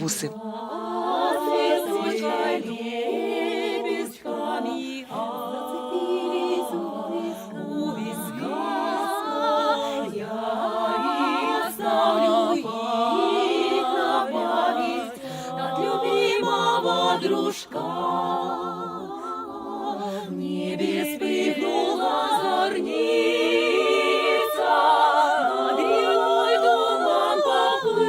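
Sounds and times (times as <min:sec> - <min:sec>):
women singing a cappella: 0:00.4 - 0:28.0.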